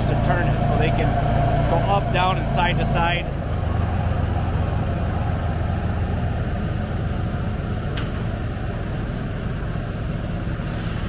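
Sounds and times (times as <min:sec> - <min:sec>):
drilling equipment engine rumbling: 0:00.0 - 0:11.0.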